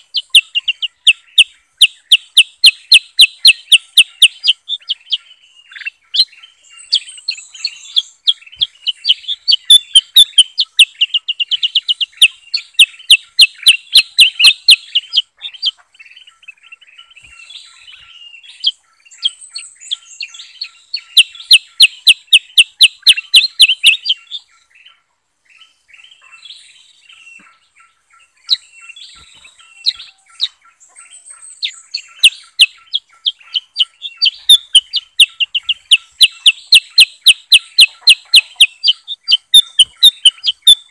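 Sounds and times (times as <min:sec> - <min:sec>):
rapid sharp bird chirps: 0:00.0 - 0:25.0, 0:25.6 - 0:40.9
soft warbled birdsong: 0:00.0 - 0:40.9.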